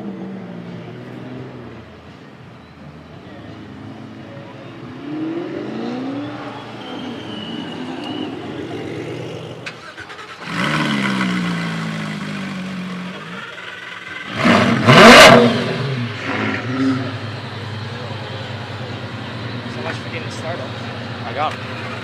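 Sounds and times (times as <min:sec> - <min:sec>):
sports car engines revving: 0:03.0 - 0:22.0.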